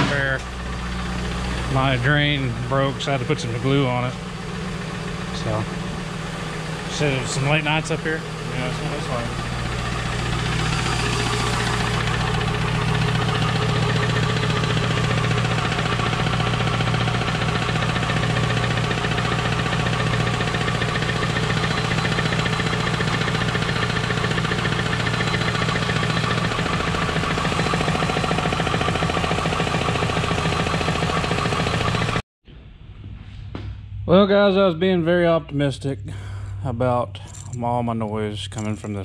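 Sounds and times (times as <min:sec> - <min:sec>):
engine idling with knock: 0:00.0 - 0:32.2
steady engine knock: 0:00.1 - 0:32.2.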